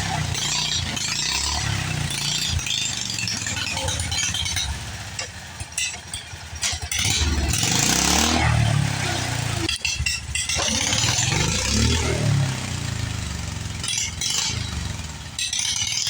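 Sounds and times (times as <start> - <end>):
lawn tractor engine revving: 0.0 - 16.0.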